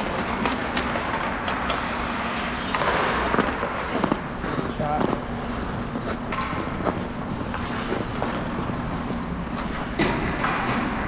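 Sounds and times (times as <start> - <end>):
steady rushing noise: 1.9 - 11.0.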